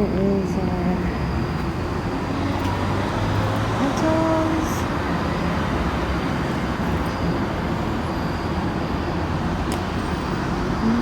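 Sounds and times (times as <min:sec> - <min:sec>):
road traffic: 0:00.0 - 0:11.0
vehicle rumble: 0:00.0 - 0:11.0.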